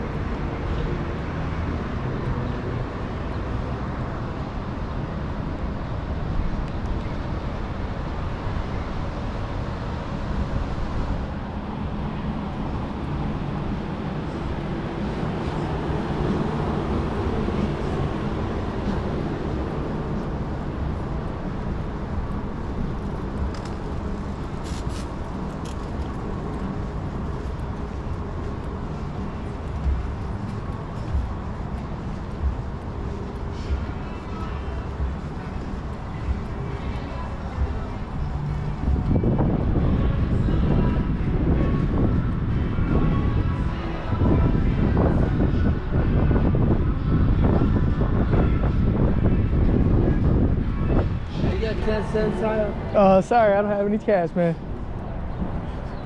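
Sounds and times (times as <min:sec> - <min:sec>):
low engine hum: 0:00.0 - 0:53.8
cars passing: 0:00.0 - 0:56.0.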